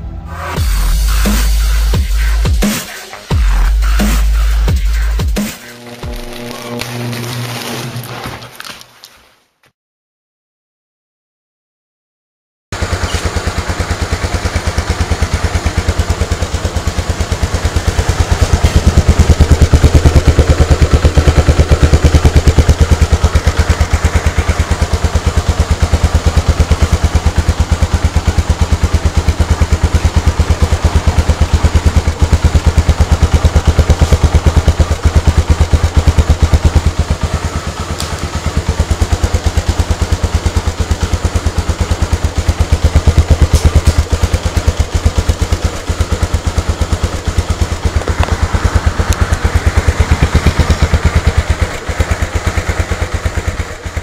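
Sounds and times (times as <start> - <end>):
motorcycle engine idling: 0.0 - 6.8, 12.8 - 54.0.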